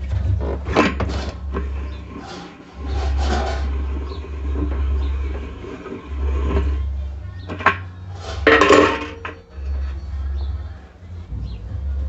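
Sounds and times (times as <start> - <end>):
metal clatter: 0.0 - 10.4
metal clinking and scraping: 0.0 - 10.8
low rumble: 0.0 - 12.0.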